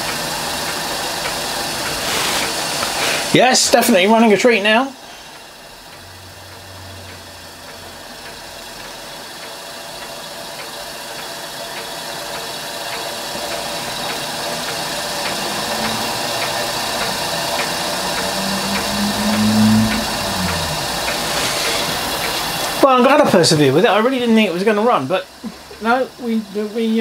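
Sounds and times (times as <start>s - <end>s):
steam engine whir and hiss: 0.0s - 27.0s.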